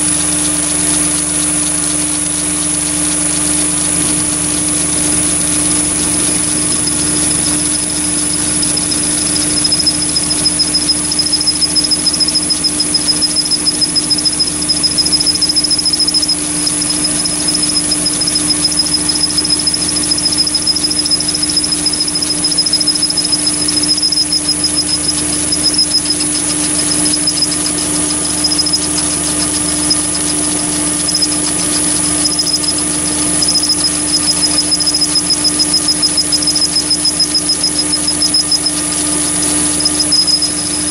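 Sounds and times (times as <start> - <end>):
lathe motor whine: 0.0 - 40.9.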